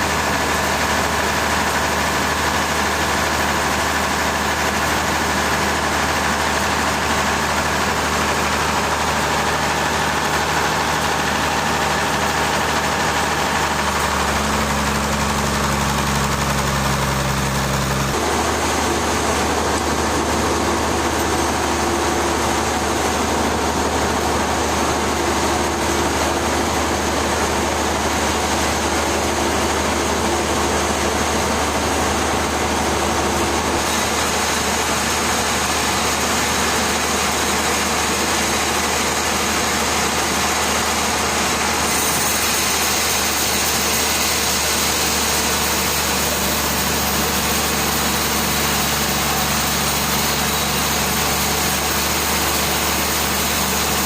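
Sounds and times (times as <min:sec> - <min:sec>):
heavy machinery engine humming: 0:00.0 - 0:54.0.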